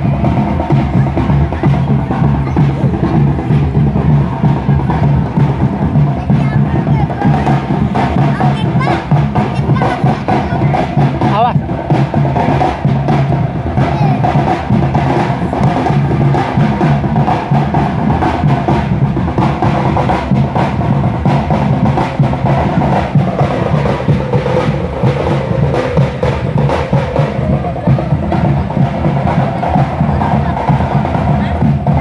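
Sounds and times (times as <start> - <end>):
drum-led percussion music: 0.0 - 32.0.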